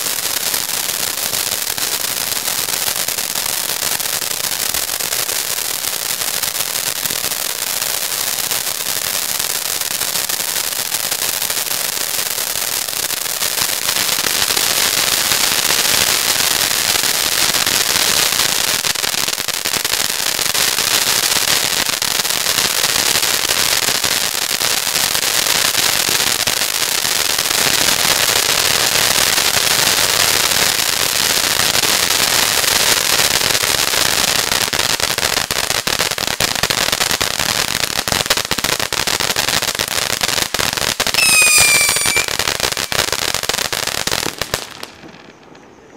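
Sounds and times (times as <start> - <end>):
ground firework hissing and crackling: 0.0 - 45.9.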